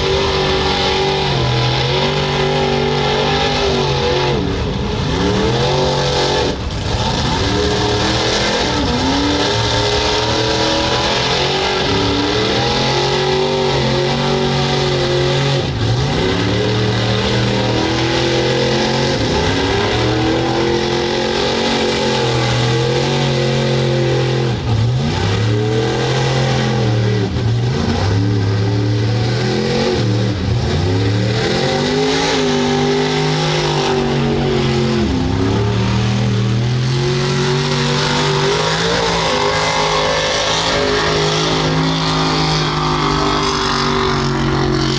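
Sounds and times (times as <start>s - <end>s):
truck engine revving hard: 0.0s - 44.9s.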